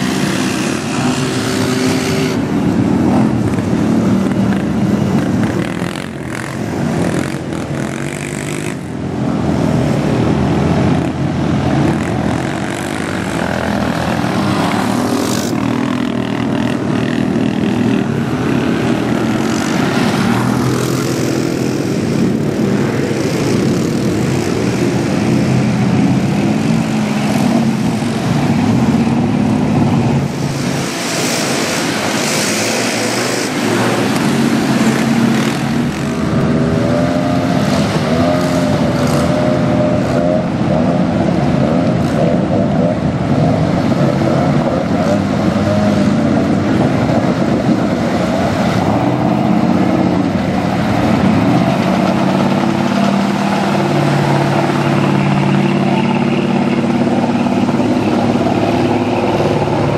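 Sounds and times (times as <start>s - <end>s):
engines revving in mud: 0.0s - 59.9s.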